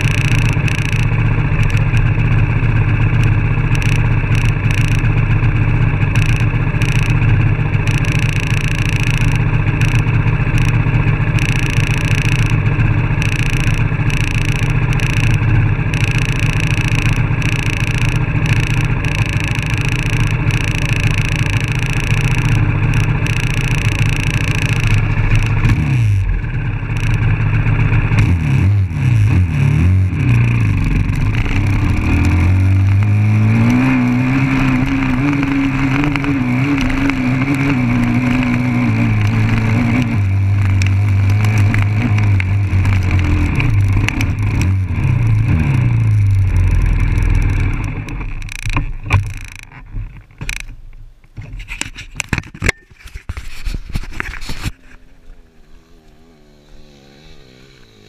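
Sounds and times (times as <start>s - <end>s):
dirt bike engine idling and revving: 0.0s - 58.0s.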